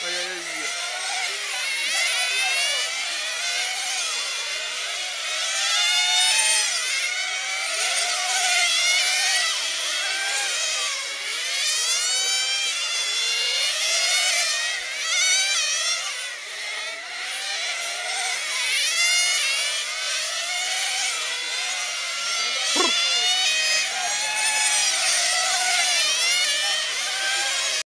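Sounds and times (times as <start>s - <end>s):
small engines revving high: 0.0s - 27.9s.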